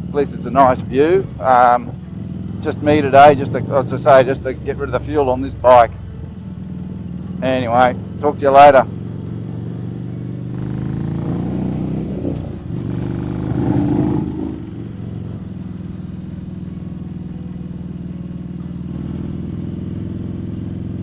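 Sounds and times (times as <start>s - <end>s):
motorcycle engine pulling away: 0.0s - 21.0s.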